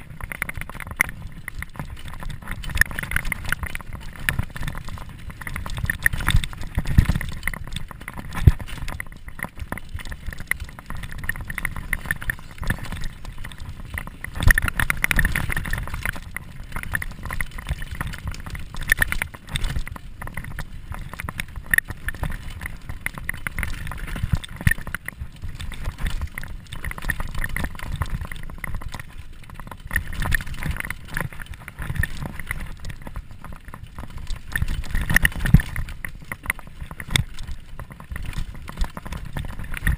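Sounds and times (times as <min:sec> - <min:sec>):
bike knocking and rattling: 0:00.0 - 0:39.9.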